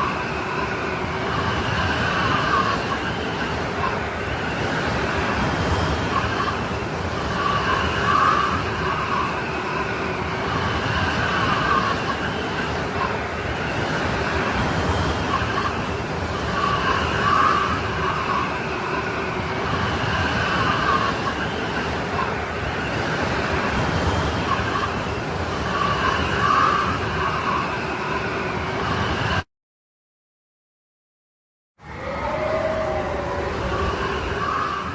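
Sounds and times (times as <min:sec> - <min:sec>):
snowstorm wind howling: 0:00.0 - 0:29.4, 0:31.8 - 0:34.9.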